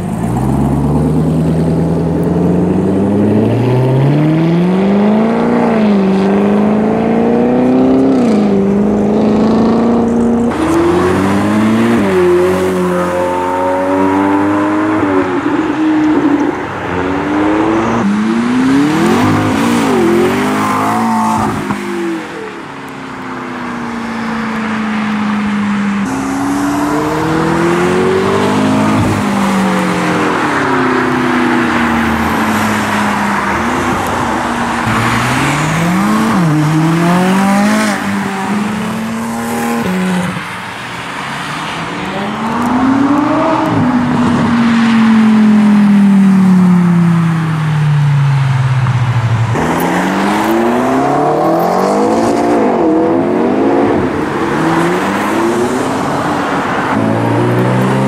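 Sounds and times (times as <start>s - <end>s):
cars accelerating hard: 0.0s - 58.0s.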